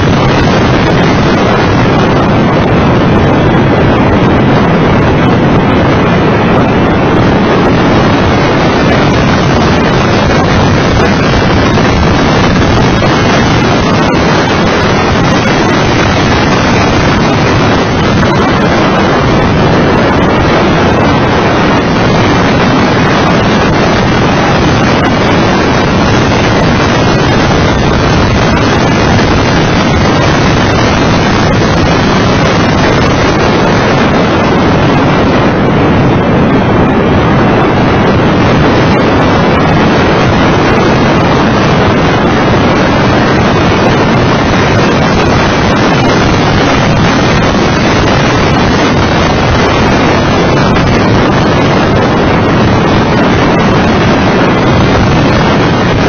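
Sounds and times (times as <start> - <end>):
car engine running hard: 0.0 - 56.0
wind buffeting on microphone: 0.0 - 56.0.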